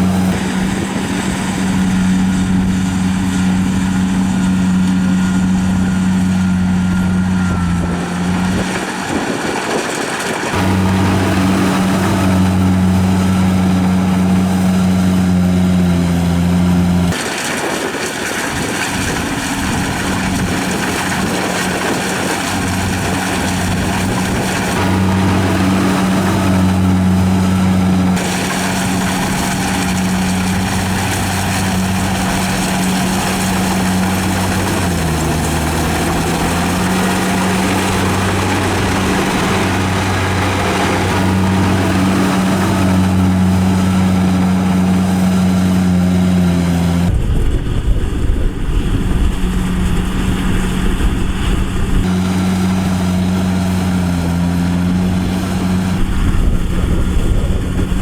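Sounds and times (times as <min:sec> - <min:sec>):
harvesting machine engine running: 0:00.0 - 0:58.0.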